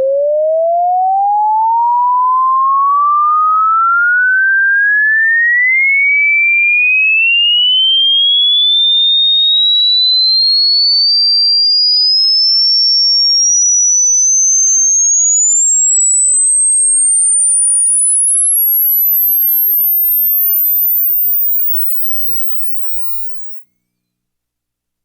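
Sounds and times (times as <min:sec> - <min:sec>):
sine wave tone sweeping upward: 0:00.0 - 0:23.6.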